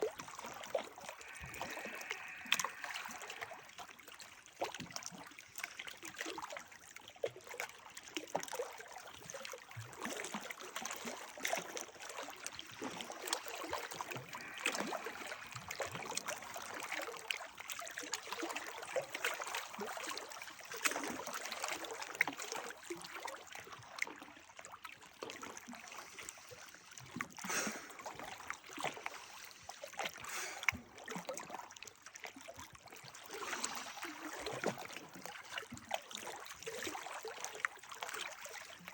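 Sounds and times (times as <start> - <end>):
small water splashes: 0.0 - 38.9
water trickling and gurgling: 0.0 - 38.9.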